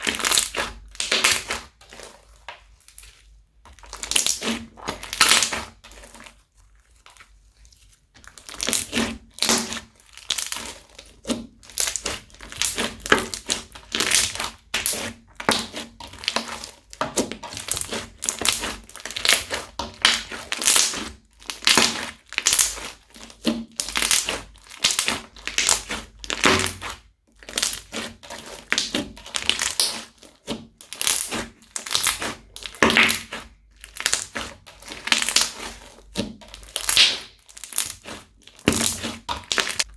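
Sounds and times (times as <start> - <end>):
crunchy slime crackling: 0.0 - 39.9.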